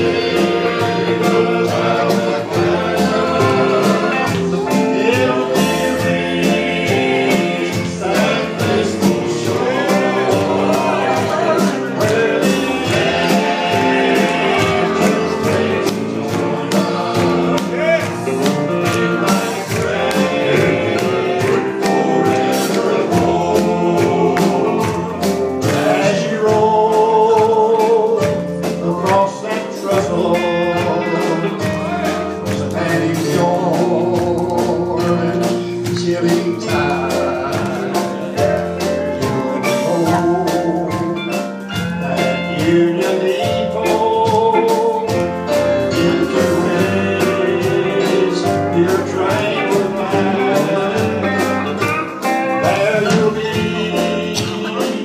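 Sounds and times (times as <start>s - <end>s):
drums: 0.0s - 55.0s
electric guitar: 0.0s - 55.0s
male group singing in harmony: 0.0s - 55.0s.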